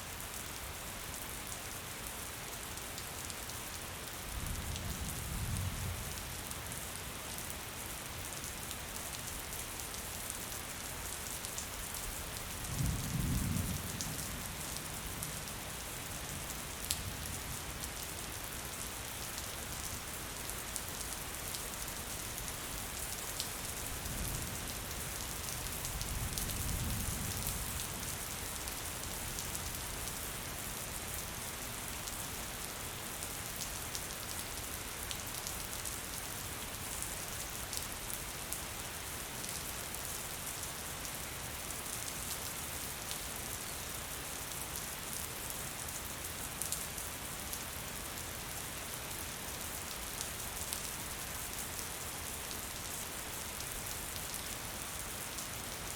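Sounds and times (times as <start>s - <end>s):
gentle rain hiss: 0.0s - 55.9s.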